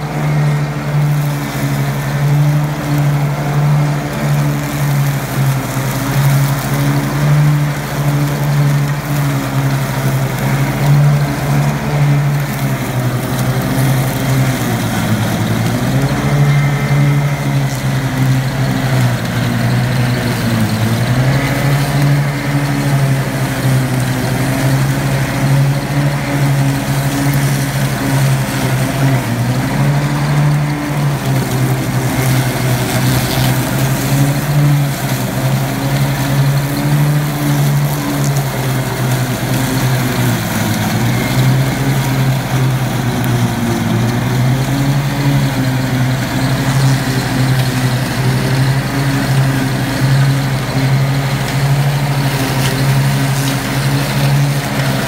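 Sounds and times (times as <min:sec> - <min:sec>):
ride-on mower engine under load: 0:00.0 - 0:55.0.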